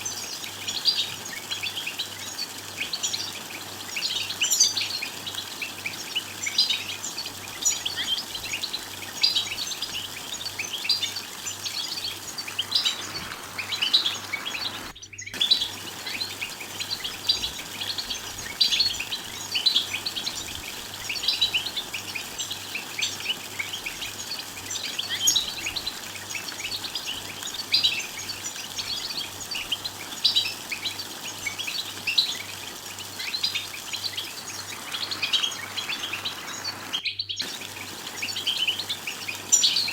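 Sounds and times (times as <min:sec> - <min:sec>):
finches twittering: 0:00.0 - 0:39.9.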